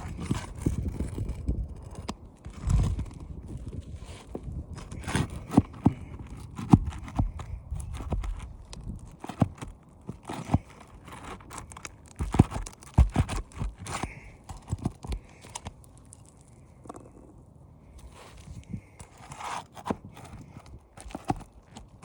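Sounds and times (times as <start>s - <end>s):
roof shingles scraping and crunching: 0.0s - 16.8s, 18.0s - 22.0s.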